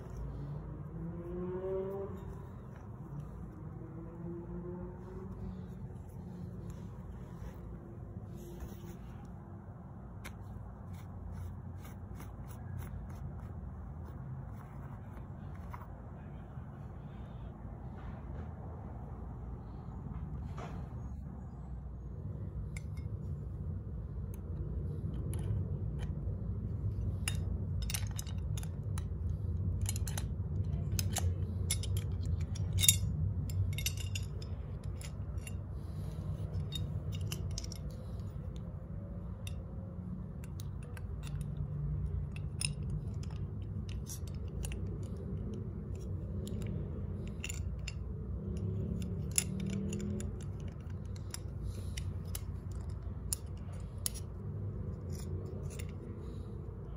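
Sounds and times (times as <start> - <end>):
metal fan parts clicking: 0.0 - 17.5, 22.1 - 56.9
steady low rumble: 0.0 - 56.9.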